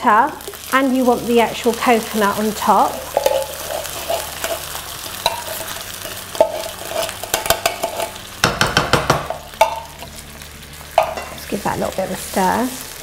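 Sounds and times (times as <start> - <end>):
pan sizzling: 0.0 - 13.0.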